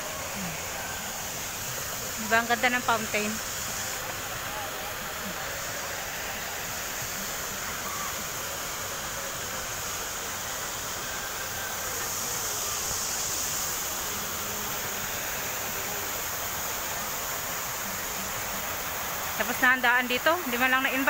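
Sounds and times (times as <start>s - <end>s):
fountain spray splashing: 0.0s - 21.0s.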